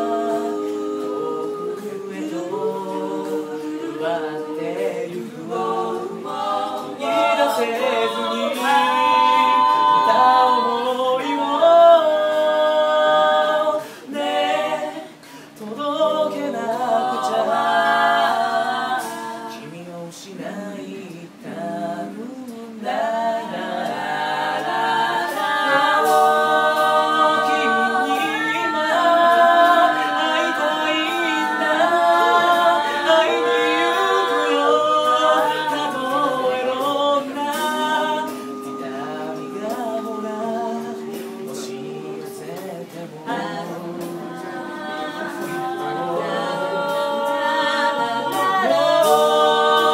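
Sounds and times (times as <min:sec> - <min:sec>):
a cappella group singing: 0:00.0 - 0:49.9.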